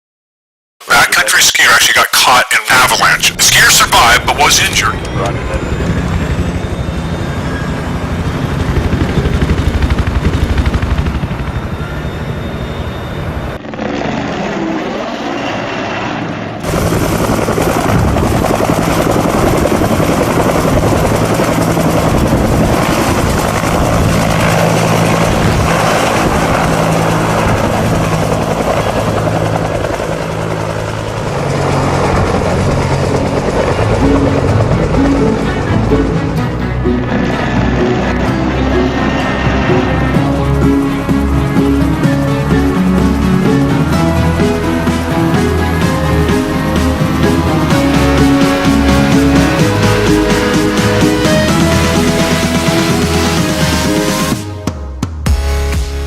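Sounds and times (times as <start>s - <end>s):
helicopter rotor and engine: 0.9s - 54.6s.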